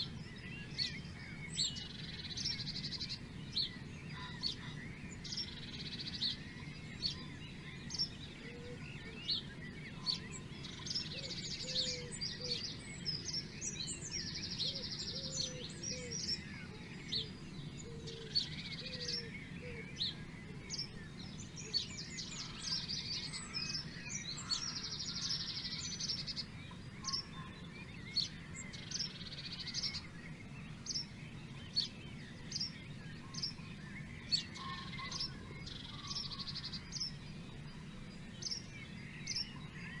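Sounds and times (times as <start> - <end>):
songbirds singing and chirping: 0.0 - 40.0.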